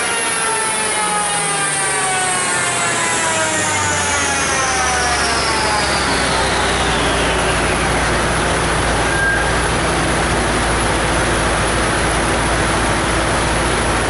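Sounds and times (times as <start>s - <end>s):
car engine running: 0.0s - 14.0s
cooling fans rushing: 0.0s - 14.0s.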